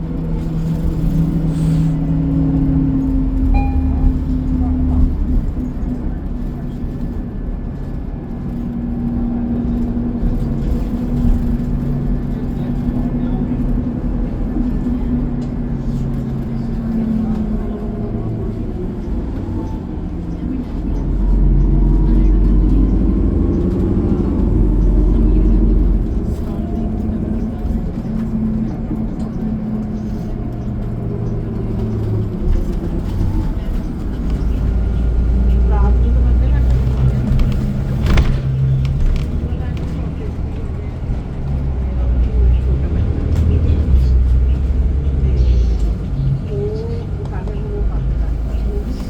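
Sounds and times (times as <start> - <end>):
bus engine drone: 0.0 - 49.0
road rumble: 0.0 - 49.0.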